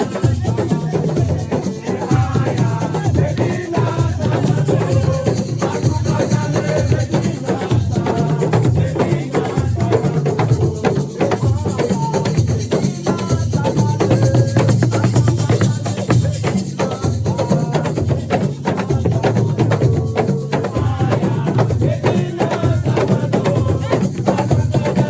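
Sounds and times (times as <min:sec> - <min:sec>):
drums and shakers rhythm: 0:00.0 - 0:25.0
voices singing: 0:00.0 - 0:25.0.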